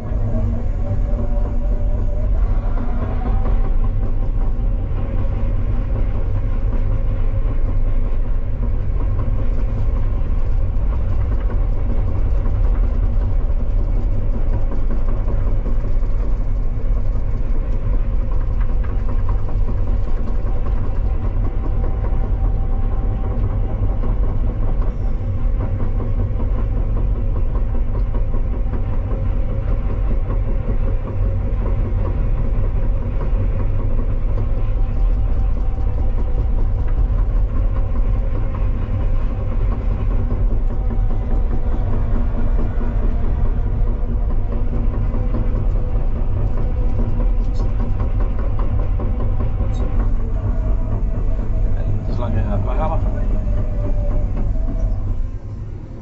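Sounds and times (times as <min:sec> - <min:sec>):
excavator electric drive whine: 0:00.0 - 0:56.0
steel tracks rattling: 0:00.0 - 0:56.0.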